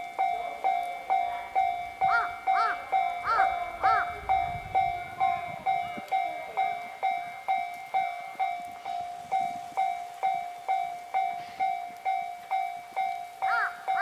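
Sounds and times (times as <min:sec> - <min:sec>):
level-crossing warning bell: 0:00.0 - 0:14.0
passing train rumble: 0:00.0 - 0:14.0.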